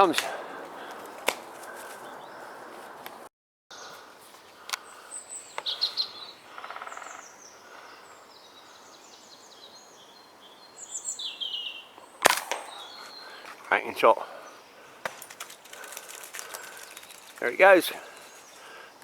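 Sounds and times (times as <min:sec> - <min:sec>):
birds singing and chirping: 0:00.0 - 0:19.0
soft outdoor hiss: 0:00.0 - 0:19.0.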